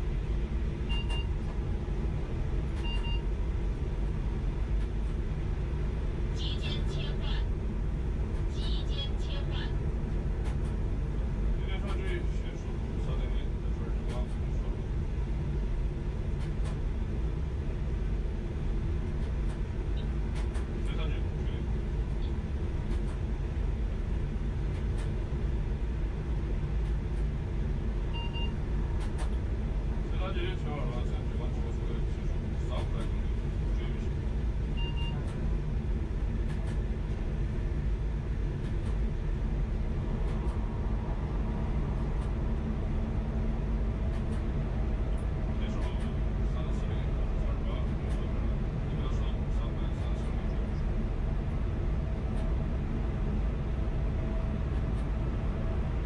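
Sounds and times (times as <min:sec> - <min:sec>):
train rumbling inside: 0:00.0 - 0:56.0.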